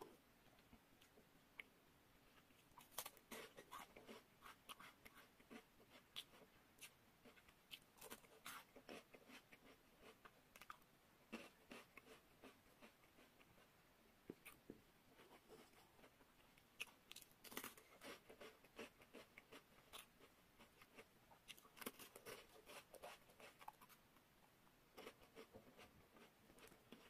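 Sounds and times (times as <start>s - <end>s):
crunching and chewing wafer: 2.3s - 13.7s, 15.2s - 24.0s, 24.9s - 27.0s.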